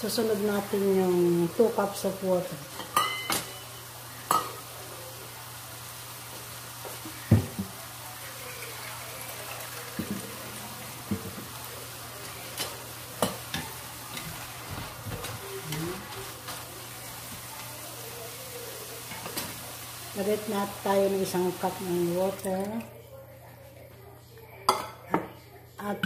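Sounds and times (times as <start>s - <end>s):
food sizzling in frying pan: 0.0s - 22.9s.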